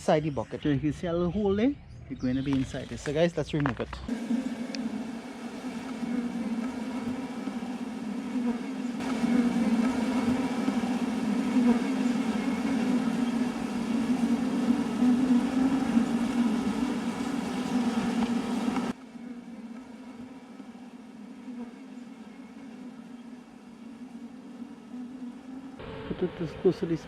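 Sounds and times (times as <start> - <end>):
bees buzzing: 4.1 - 26.8.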